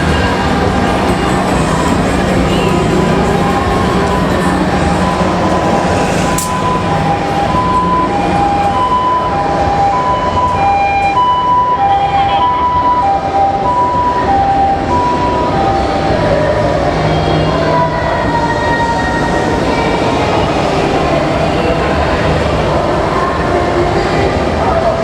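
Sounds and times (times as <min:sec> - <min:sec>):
ambulance two-tone siren: 0:00.0 - 0:22.4
city traffic noise: 0:00.0 - 0:25.0.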